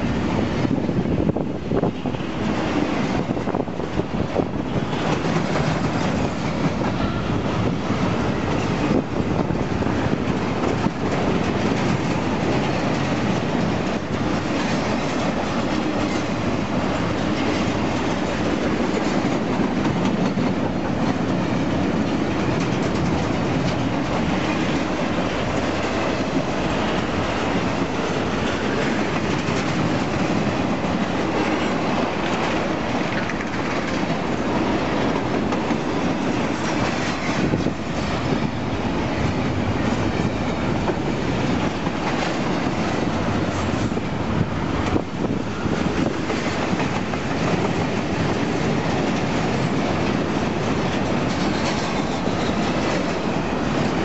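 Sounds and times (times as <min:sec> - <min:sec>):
freight train rolling past: 0:00.0 - 0:54.0
wheels clacking on rail joints: 0:01.8 - 0:54.0.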